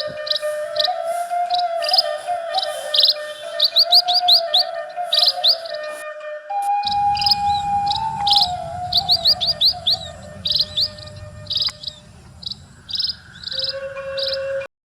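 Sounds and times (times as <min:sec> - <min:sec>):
birds chirping: 0:00.0 - 0:06.0, 0:06.7 - 0:14.6
bamboo flute music: 0:00.0 - 0:14.7.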